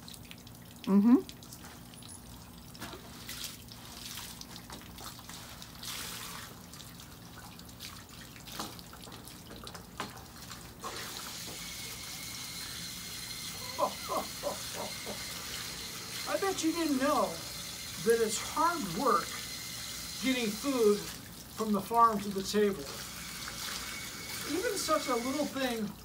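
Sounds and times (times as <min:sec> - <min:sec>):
water sloshing and splashing: 0:00.0 - 0:13.4, 0:15.2 - 0:26.0
garden hose spraying water: 0:00.0 - 0:26.0.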